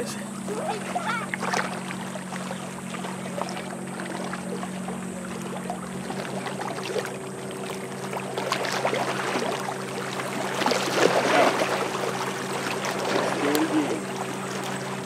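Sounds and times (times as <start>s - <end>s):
boat motor drone: 0.0s - 15.0s
water noise: 0.0s - 15.0s.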